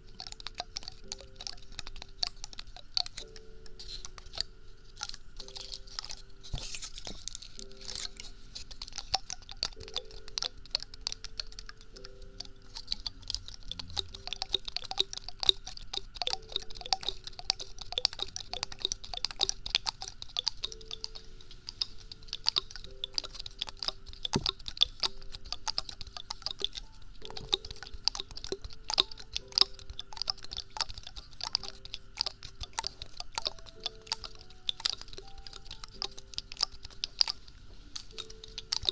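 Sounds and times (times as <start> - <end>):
prop crackling and clicking: 0.0 - 38.9
soft background music: 0.0 - 38.9.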